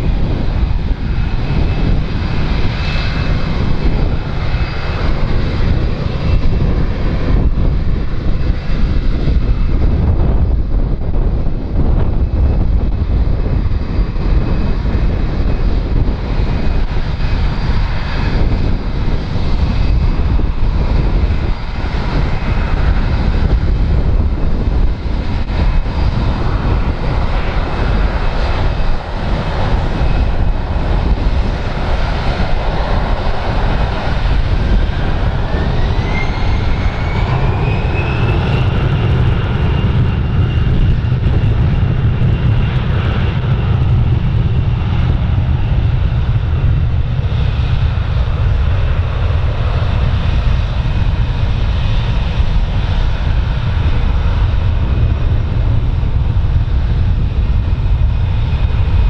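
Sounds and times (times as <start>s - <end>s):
jet engines whining: 0.0s - 59.0s
wind buffeting microphone: 0.0s - 59.0s.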